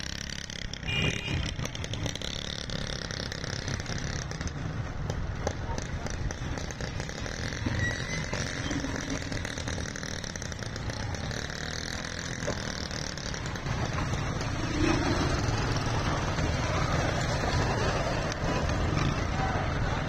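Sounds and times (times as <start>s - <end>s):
motorcycle and rickshaw engines: 0.0s - 20.0s.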